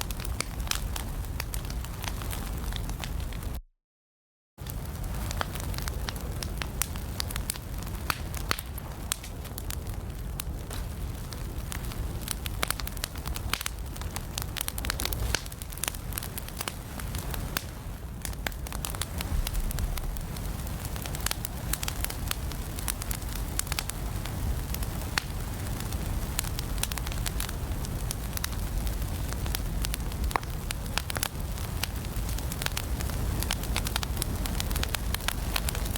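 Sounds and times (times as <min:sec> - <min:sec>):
low rumble of flames: 0:00.0 - 0:03.6, 0:04.6 - 0:35.9
wood fire crackling and popping: 0:00.0 - 0:03.6, 0:04.6 - 0:35.9.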